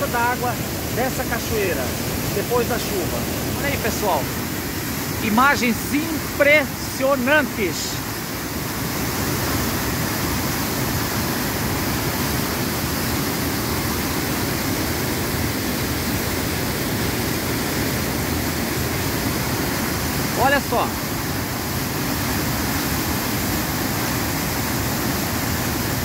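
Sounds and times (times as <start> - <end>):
waterfall crashing over rocks: 0.0 - 26.0.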